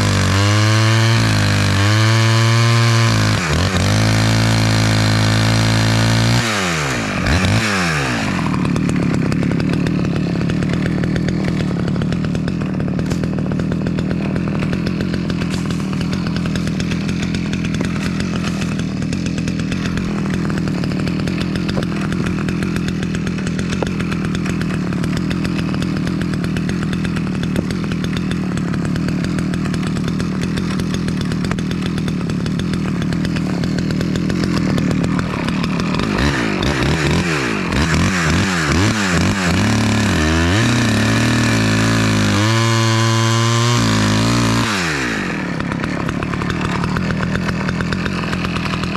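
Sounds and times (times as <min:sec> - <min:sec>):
chainsaw revving and idling: 0:00.0 - 0:48.9.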